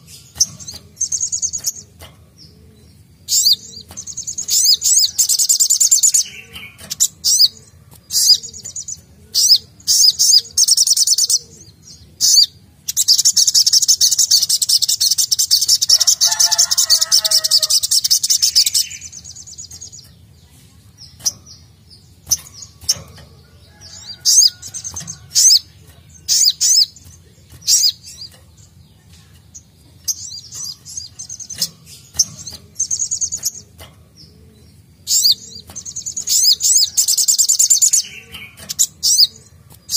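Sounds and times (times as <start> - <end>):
bird singing high-pitched chirps: 2.9 - 33.9, 34.7 - 39.9.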